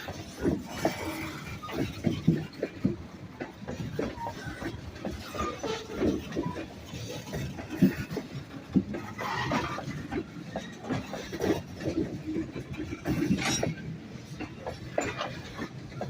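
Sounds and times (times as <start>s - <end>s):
train wheels knocking and clanking: 0.0s - 16.0s.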